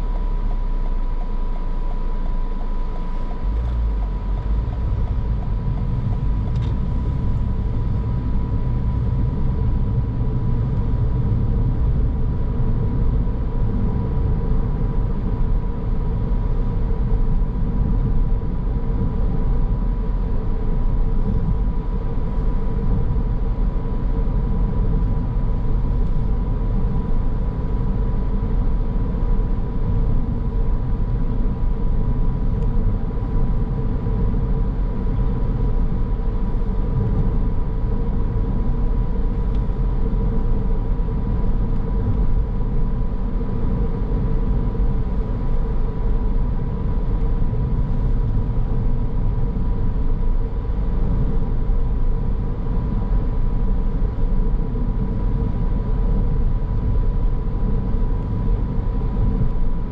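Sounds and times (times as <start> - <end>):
car driving on road: 0.0 - 59.9
faint whine: 0.0 - 59.9.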